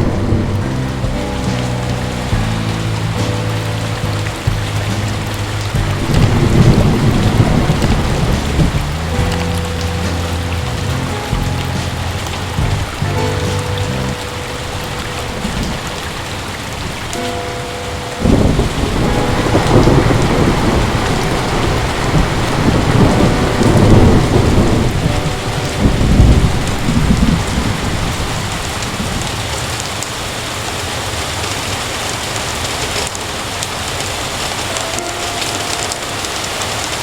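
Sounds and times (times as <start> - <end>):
rolling thunder: 0.0 - 29.8
heavy rain: 0.0 - 37.0.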